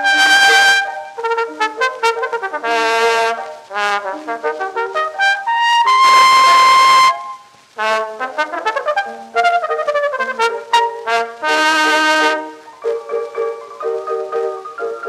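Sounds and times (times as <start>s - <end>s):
solo cornet playing polka: 0.0s - 15.0s.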